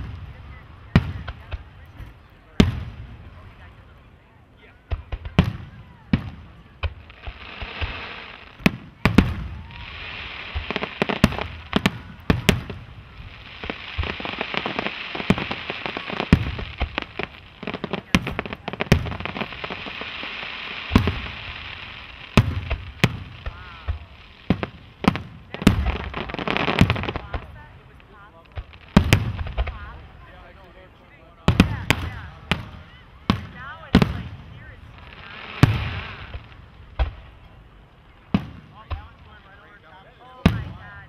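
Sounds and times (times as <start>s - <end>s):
fireworks crackling: 0.0s - 41.0s.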